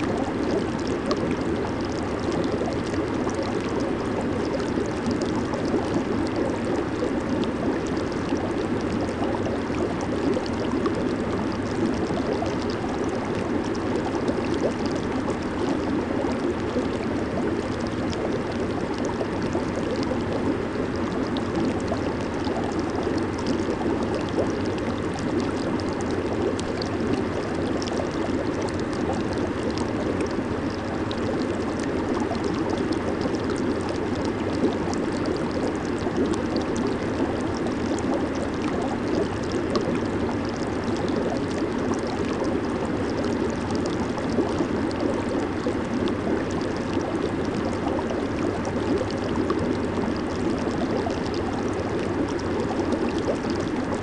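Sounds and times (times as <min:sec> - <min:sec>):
bubbles fizzing and popping: 0:00.0 - 0:54.0
jacuzzi water churning: 0:00.0 - 0:54.0.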